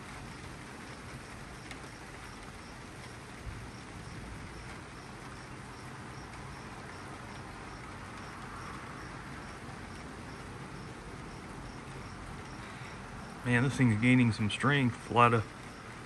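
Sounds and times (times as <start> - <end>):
rain hissing: 0.0 - 16.0
cricket chirping: 0.3 - 13.7, 15.7 - 16.0.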